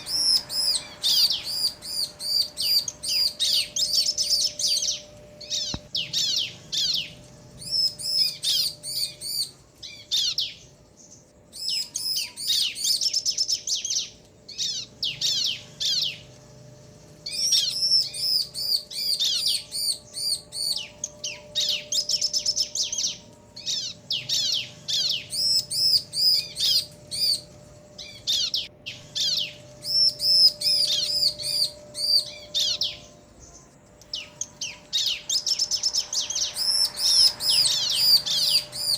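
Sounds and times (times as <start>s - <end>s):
birds chattering calls: 0.0s - 38.9s.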